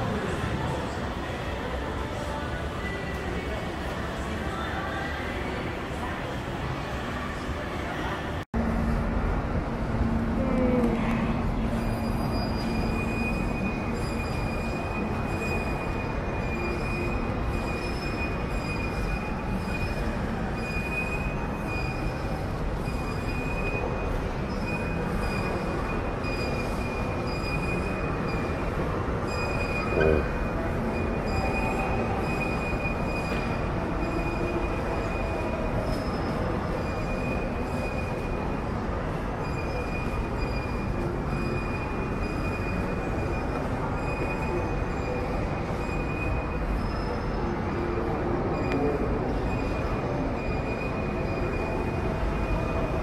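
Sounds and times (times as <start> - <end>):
constant high whine: 8.6 - 53.0.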